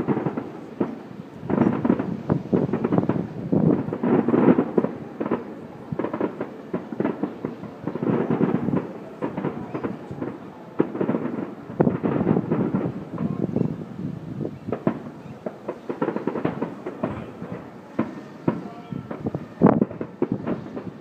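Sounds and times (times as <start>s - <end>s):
firework bangs and crackles: 0.0s - 21.0s.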